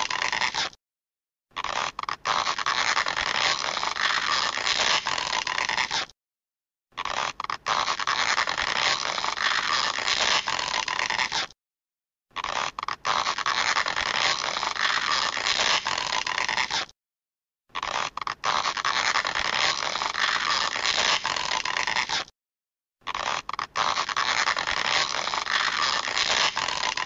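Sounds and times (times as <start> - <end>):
rough stretching sound effect: 0.0 - 0.8, 1.6 - 6.2, 7.0 - 11.6, 12.3 - 17.0, 17.8 - 22.3, 23.0 - 27.0.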